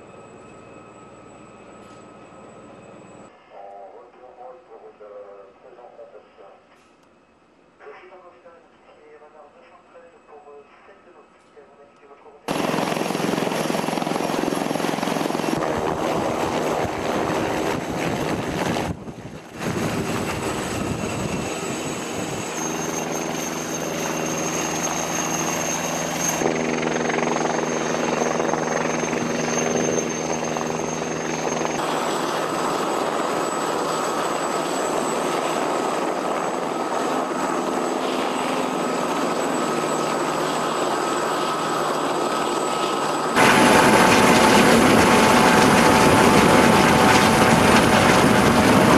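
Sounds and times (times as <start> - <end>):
helicopter turbines and rotors: 0.0 - 3.3, 12.5 - 48.9.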